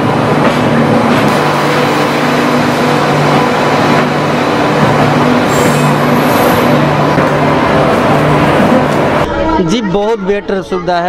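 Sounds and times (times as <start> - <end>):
passenger train running: 0.0 - 11.0.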